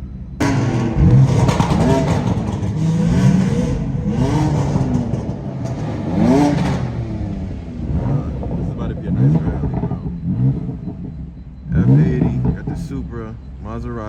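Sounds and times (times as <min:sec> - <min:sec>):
sports car engines revving: 0:00.0 - 0:14.0.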